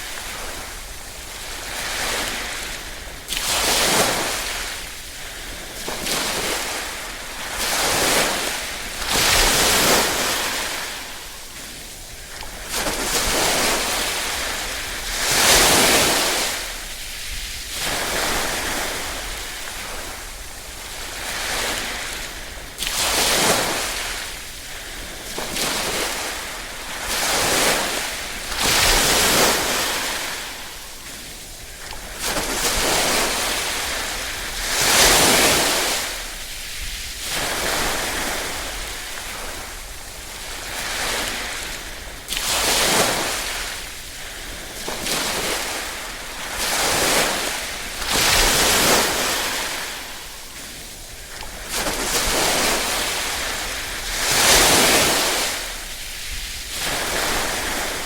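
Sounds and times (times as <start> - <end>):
small waves washing in: 0.0 - 58.0.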